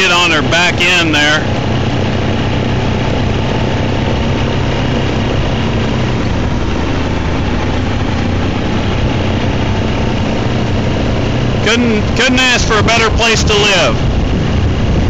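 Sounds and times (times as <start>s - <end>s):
atv engine running: 0.0s - 15.0s
wind noise: 0.0s - 15.0s.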